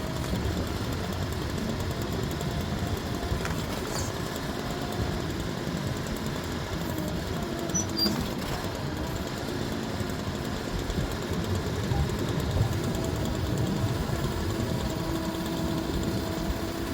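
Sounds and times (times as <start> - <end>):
skid steer engine running: 0.0 - 16.9.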